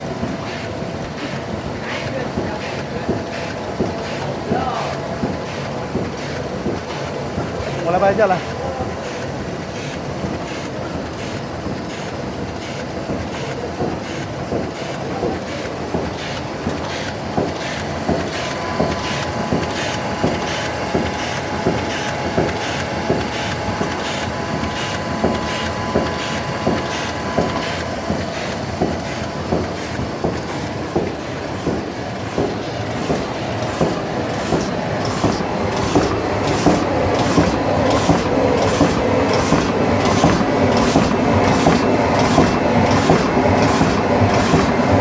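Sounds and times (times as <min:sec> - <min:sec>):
machine clattering with regular clacks: 0:00.0 - 0:45.0.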